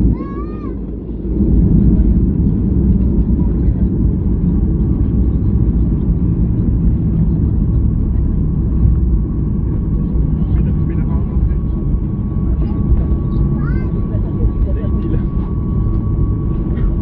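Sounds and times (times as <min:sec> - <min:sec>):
airliner rumble on runway: 0:00.0 - 0:17.0.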